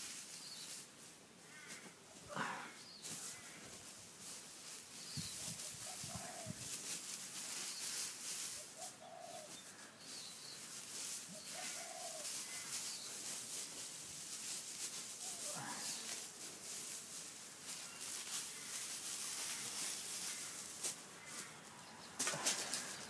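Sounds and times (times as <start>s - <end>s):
straw rustling and crackling: 0.0s - 2.3s, 2.9s - 23.0s.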